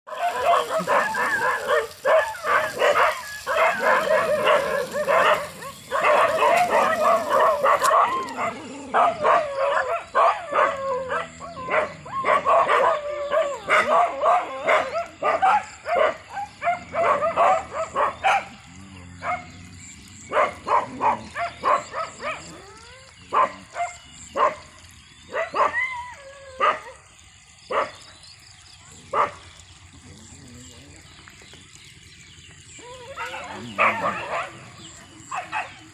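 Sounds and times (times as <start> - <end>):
dogs barking: 0.1 - 28.1, 29.0 - 30.8, 32.6 - 35.9.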